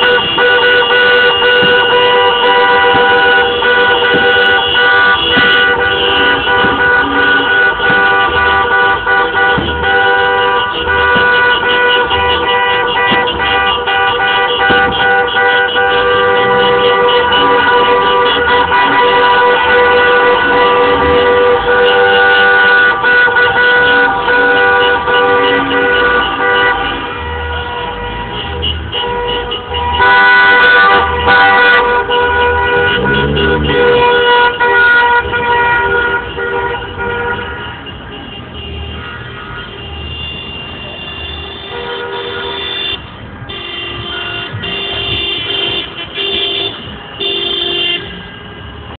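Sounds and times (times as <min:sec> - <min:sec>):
car horns honking: 0:00.0 - 0:49.0
low rumble of traffic: 0:00.0 - 0:49.0.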